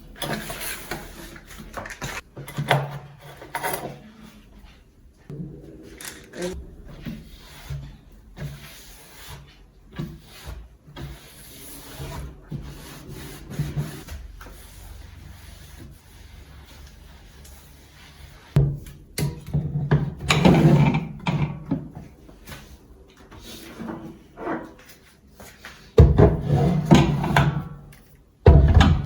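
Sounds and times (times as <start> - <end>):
rubbing and scraping in kitchen: 0.0 - 29.0.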